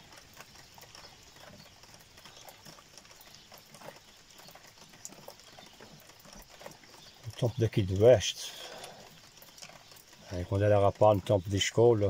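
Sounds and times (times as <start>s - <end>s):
water dripping: 0.0s - 12.0s.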